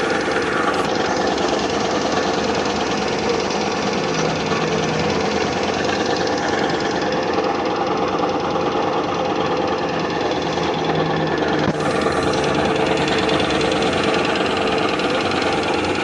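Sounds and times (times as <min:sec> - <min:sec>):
air compressor knocking: 0:00.0 - 0:16.0.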